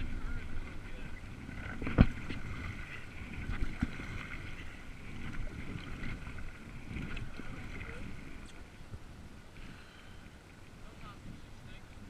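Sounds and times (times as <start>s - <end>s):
river water splashing: 0.0s - 12.0s
wind buffeting microphone: 0.0s - 12.0s.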